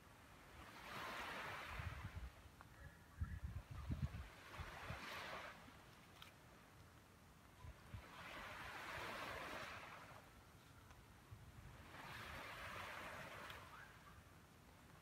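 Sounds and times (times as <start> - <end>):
small waves washing on sand: 0.0 - 2.4, 4.0 - 15.0.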